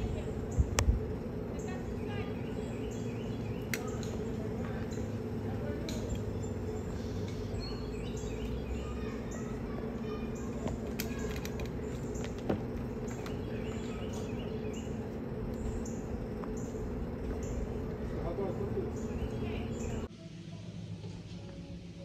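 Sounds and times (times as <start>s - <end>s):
birds chirping: 0.0s - 20.1s
steady low hum: 0.0s - 22.0s.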